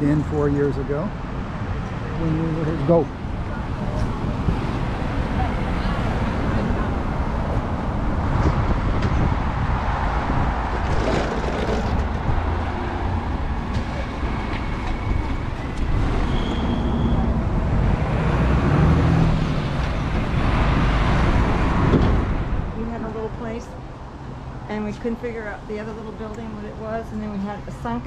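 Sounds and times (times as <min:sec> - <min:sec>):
cars and vans passing: 0:00.0 - 0:28.0
lorry passing close: 0:00.0 - 0:28.0.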